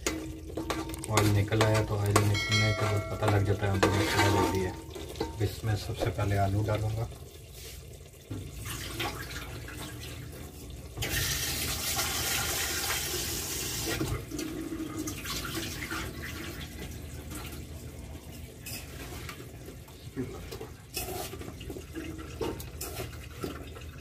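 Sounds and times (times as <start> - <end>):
tap water rushing into steel bowl: 0.0 - 17.7, 18.3 - 24.0.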